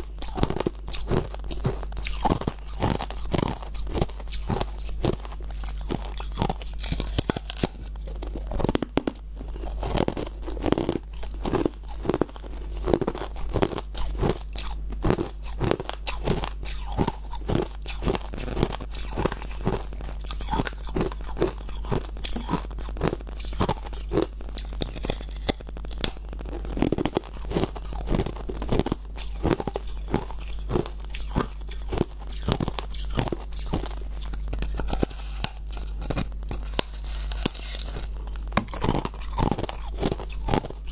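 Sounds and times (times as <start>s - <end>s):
ice being chewed: 0.0s - 40.9s
low steady hum: 0.0s - 40.9s.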